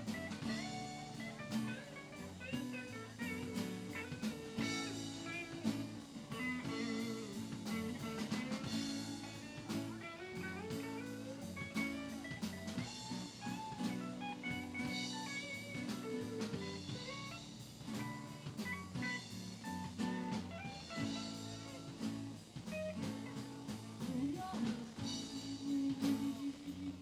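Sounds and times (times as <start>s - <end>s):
electric guitar lead: 0.0s - 26.5s
bass guitar: 0.0s - 27.0s
drum kit beat: 0.0s - 27.0s.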